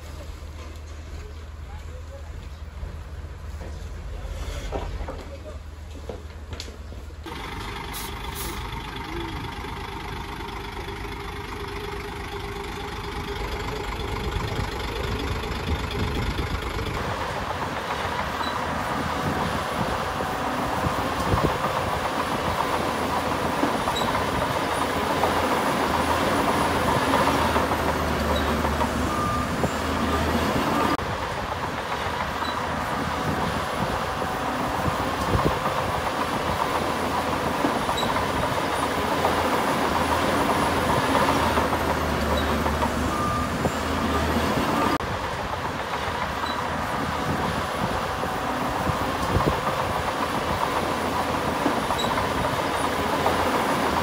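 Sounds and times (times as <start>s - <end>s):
heavy diesel machinery running: 7.0s - 54.0s.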